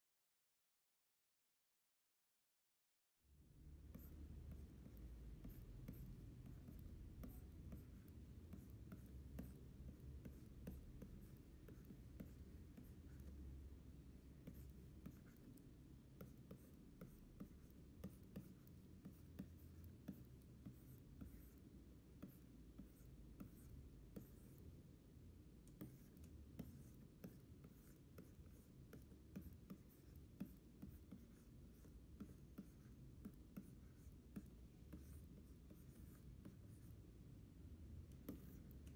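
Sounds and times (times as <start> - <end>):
low steady hum: 3.3 - 38.9
stylus scratching on a screen: 3.9 - 13.4, 14.3 - 24.7, 25.7 - 37.0, 38.1 - 38.9.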